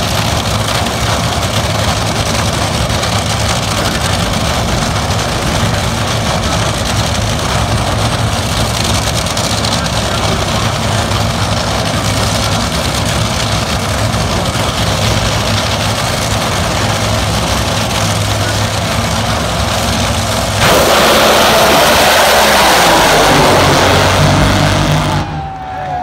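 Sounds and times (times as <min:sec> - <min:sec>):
dragster engines at full throttle: 0:00.0 - 0:26.0
dragster engines idling: 0:00.0 - 0:26.0.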